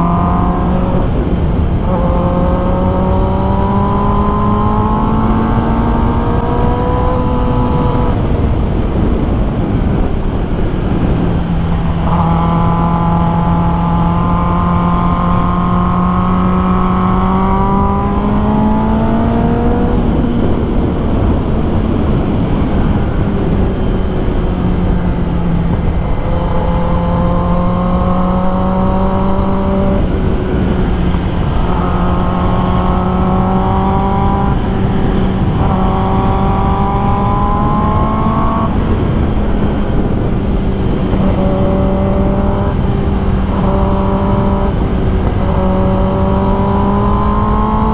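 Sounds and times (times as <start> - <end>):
wind noise: 0.0 - 47.9.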